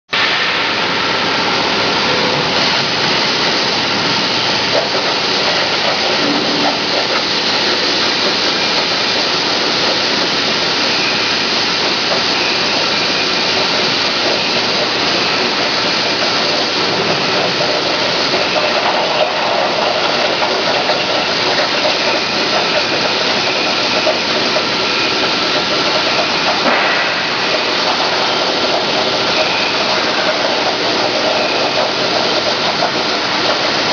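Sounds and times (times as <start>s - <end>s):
plasma torch hissing: 0.2s - 33.9s.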